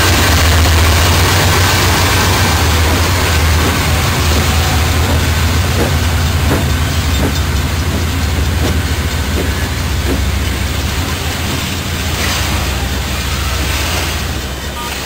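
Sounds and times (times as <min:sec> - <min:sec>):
freight train rumbling past: 0:00.0 - 0:15.0
wheels clicking over rail joints: 0:00.0 - 0:15.0.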